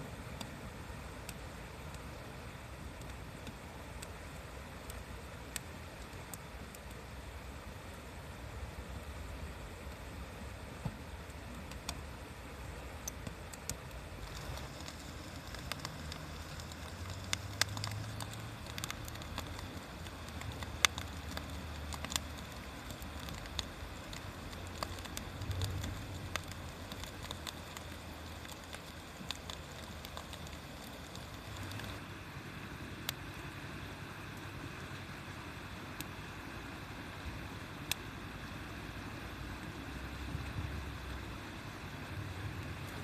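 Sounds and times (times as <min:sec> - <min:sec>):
low steady rumble: 0:00.0 - 0:43.0
bonfire crackling and popping: 0:00.1 - 0:43.0.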